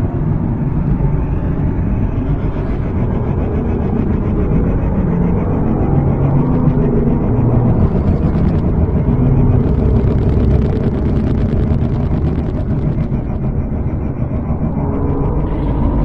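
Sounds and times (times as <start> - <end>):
deep rumbling drone: 0.0 - 16.0.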